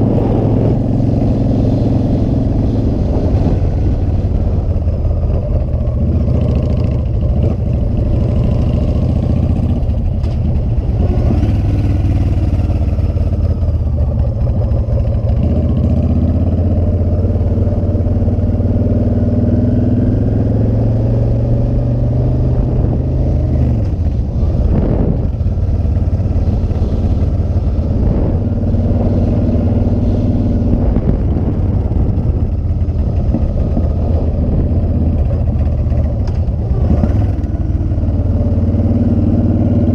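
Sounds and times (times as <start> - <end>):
rush of noise: 0.0 - 19.3, 20.0 - 39.9
motorcycle engine accelerating: 0.0 - 39.9.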